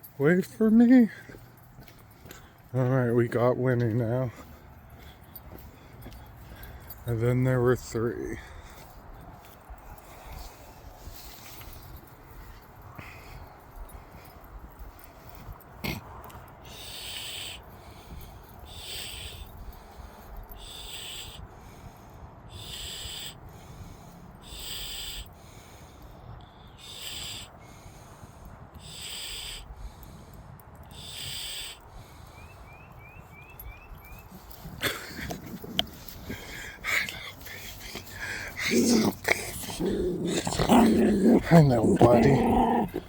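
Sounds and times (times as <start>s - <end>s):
heavy rasping breathing: 0.0s - 32.7s, 33.5s - 43.0s.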